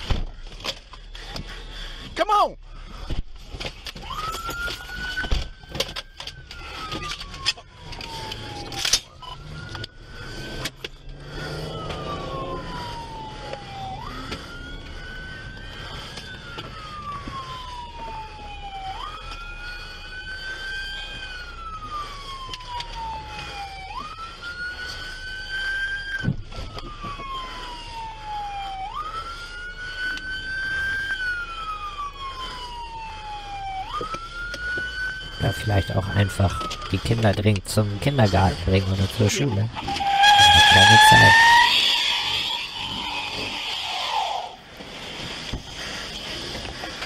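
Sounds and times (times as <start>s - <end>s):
police siren wailing: 0.0s - 47.0s.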